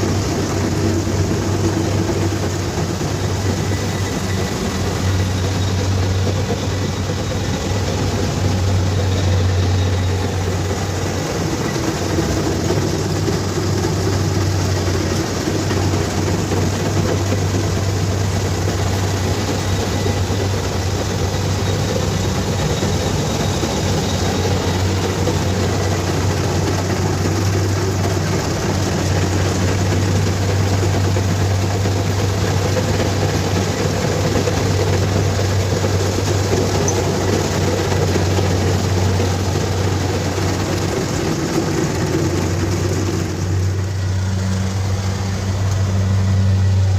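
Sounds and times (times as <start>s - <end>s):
combine harvester drone: 0.0s - 46.9s.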